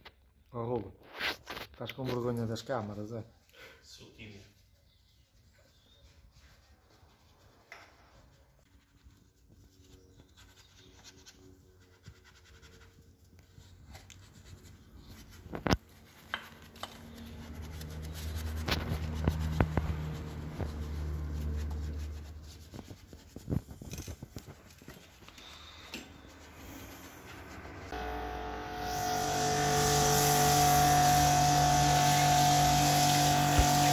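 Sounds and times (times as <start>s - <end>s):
brush scrubbing a wheel: 4.2s - 28.0s, 28.9s - 33.9s.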